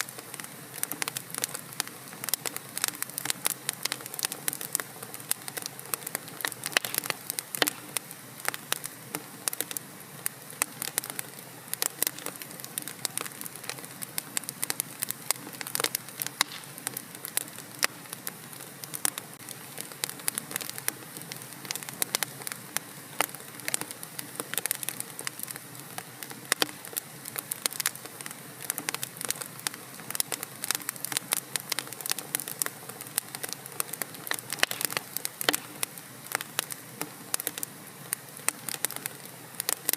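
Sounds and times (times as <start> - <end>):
fire popping and snapping: 0.0 - 39.9
soft hiss: 0.0 - 39.9
wood fire crackling: 0.0 - 39.9.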